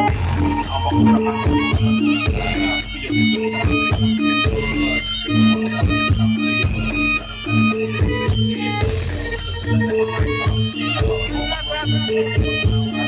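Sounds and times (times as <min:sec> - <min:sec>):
remix music with steady beat: 0:00.0 - 0:13.0.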